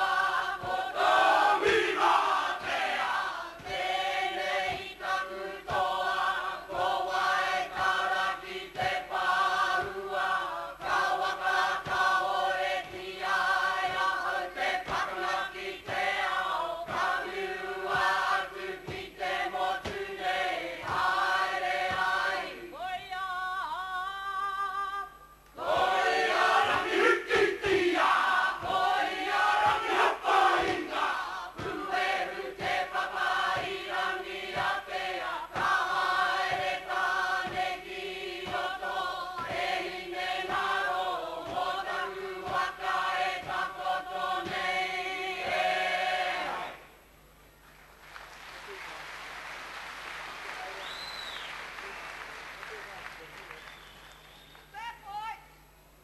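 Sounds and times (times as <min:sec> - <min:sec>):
group singing in unison: 0:00.0 - 0:46.9.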